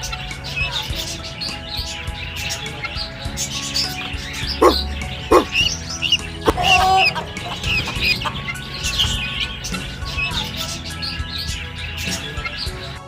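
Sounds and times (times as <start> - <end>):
background music: 0.0 - 13.0
chickens clucking: 0.0 - 13.0
small birds chirping: 0.0 - 13.0.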